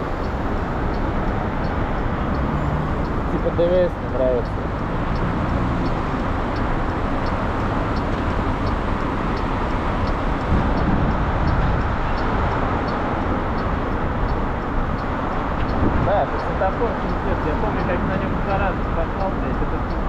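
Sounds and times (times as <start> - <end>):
faint ticking: 0.0 - 20.0
wind and road noise: 0.0 - 20.0.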